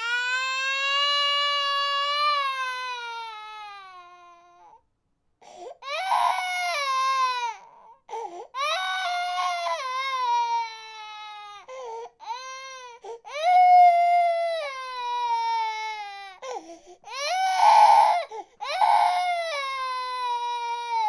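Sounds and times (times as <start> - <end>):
baby crying: 0.0 - 4.8, 5.6 - 21.0.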